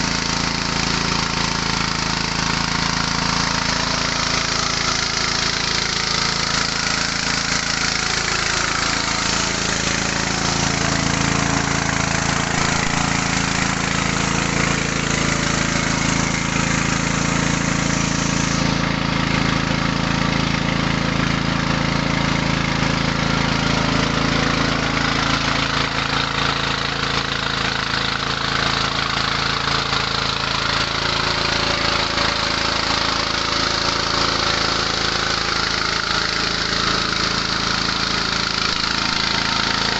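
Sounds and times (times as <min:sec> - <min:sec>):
rice huller machine noise: 0:00.0 - 0:39.9
small petrol engine running: 0:00.0 - 0:39.9.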